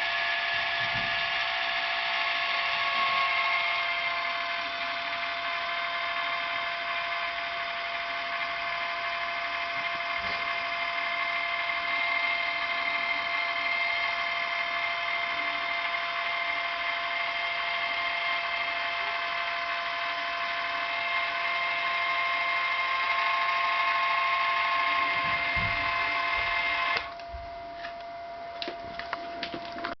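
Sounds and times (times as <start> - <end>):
small electric motor whining: 0.0 - 30.0.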